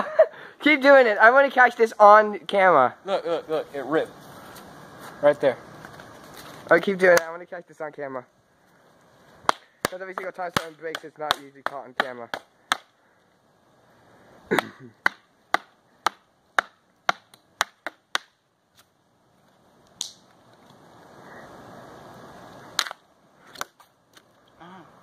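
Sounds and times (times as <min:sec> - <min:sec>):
faint steady noise: 0:00.0 - 0:25.0.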